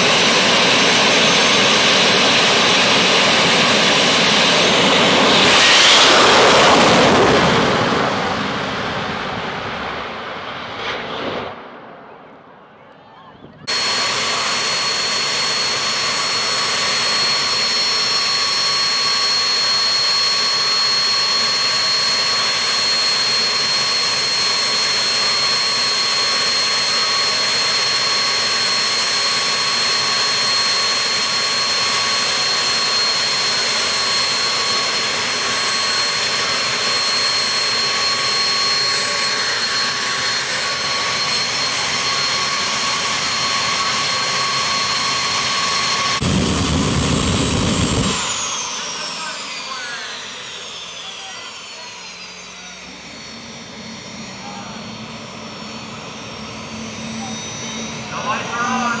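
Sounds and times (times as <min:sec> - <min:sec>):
jet engine running with whine: 0:00.0 - 0:59.0.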